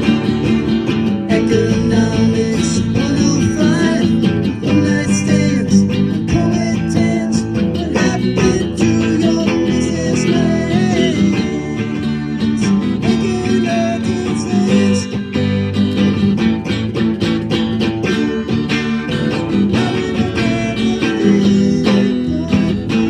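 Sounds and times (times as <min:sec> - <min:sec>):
strummed guitar: 0:00.0 - 0:23.0.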